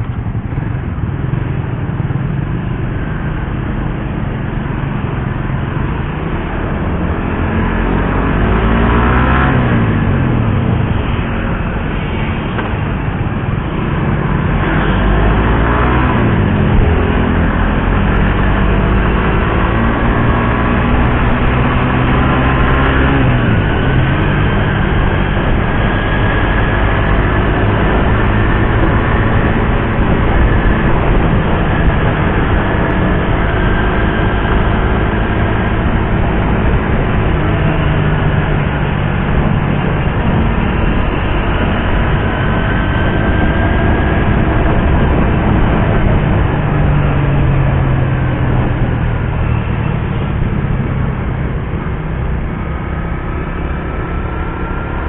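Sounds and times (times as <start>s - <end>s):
motorcycle engine revving while riding: 0.0s - 55.0s.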